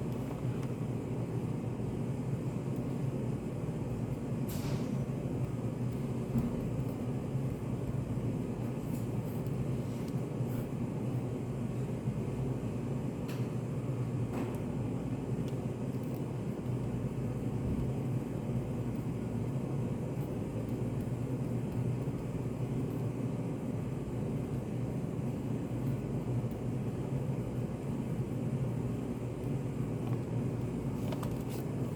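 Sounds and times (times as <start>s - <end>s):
room hum and rumble: 0.0s - 31.9s.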